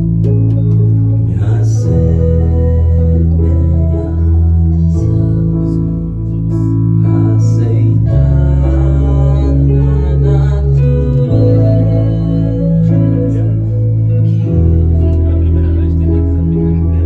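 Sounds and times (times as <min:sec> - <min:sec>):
deep bass line: 0:00.0 - 0:17.0
live band playing slow chords: 0:00.0 - 0:17.0.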